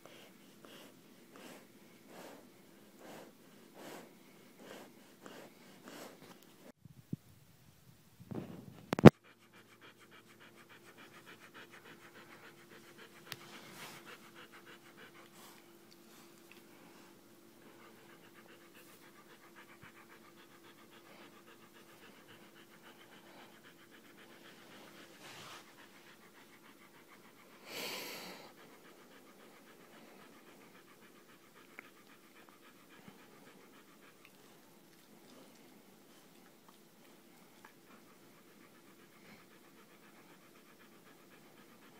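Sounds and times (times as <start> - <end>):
dog panting: 0.0 - 6.7, 9.0 - 41.9.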